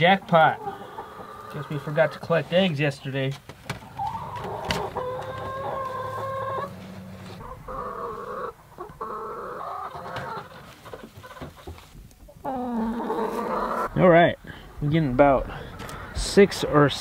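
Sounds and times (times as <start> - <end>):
chicken calling: 0.0 - 2.3, 3.7 - 16.9.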